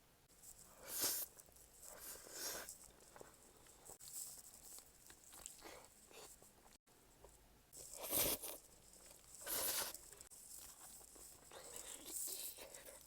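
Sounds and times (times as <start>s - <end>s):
quiet chewing: 0.4s - 13.0s.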